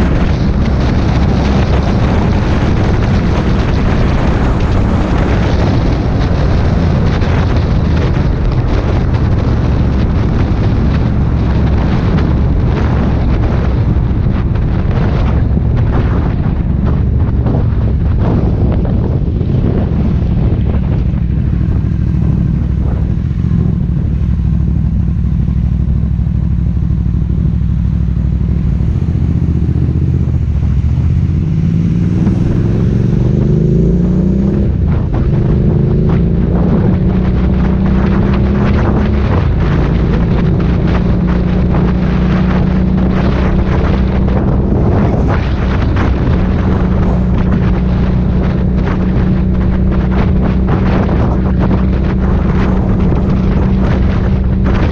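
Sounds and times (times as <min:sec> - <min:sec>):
gear change: 0:00.0 - 0:54.9
motorcycle engine accelerating: 0:00.0 - 0:54.9
wind buffeting microphone: 0:00.0 - 0:54.9.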